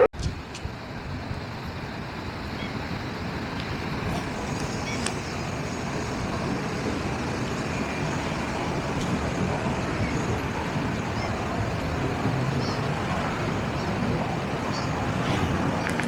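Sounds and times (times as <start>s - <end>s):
distant engines rumbling: 0.0s - 16.0s.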